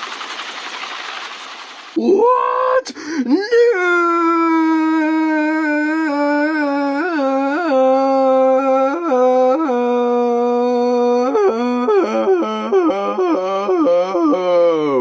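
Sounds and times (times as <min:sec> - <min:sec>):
voice wailing long notes: 0:02.0 - 0:15.0.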